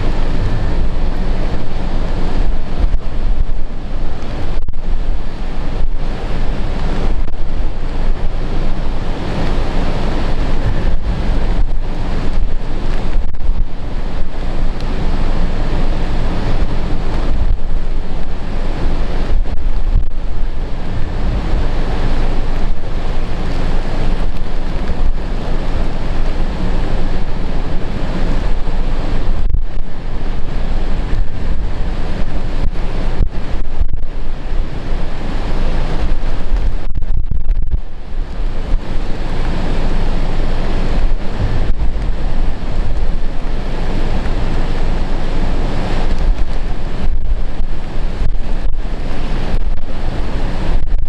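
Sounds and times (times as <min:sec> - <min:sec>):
heavy surf crashing on shore: 0:00.0 - 0:51.0
strong wind buffeting microphone: 0:00.0 - 0:51.0.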